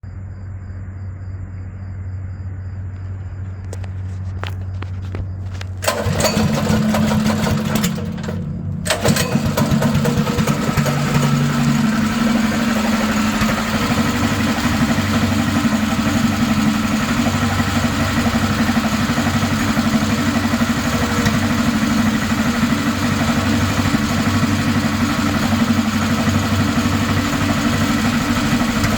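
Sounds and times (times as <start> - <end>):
small engine starting and running: 3.6 - 28.9.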